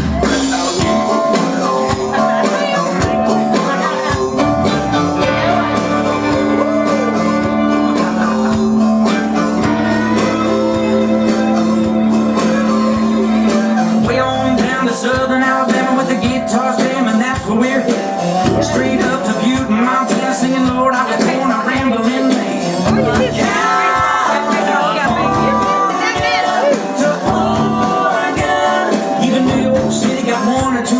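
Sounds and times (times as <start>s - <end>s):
live band with guitar: 0.0s - 30.9s.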